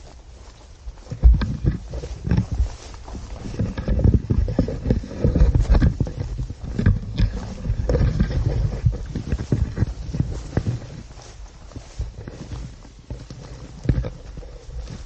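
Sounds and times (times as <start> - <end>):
footsteps through weeds: 0.0 - 15.0
heavy low microphone rumble: 0.0 - 15.0
leafy brush swishing: 0.0 - 15.0.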